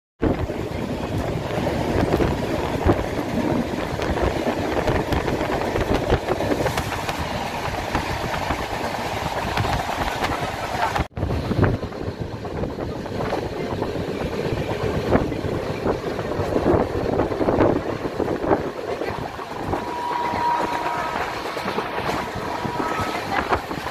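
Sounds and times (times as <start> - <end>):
train wheels rumbling on rails: 0.2 - 23.9.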